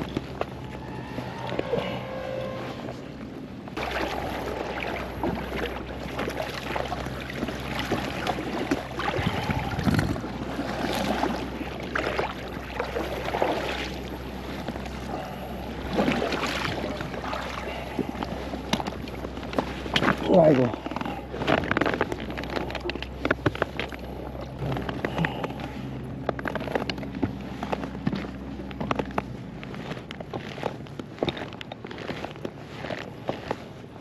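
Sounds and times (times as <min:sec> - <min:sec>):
steady low hum: 0:00.0 - 0:34.0
water sloshing around boat: 0:00.0 - 0:34.0.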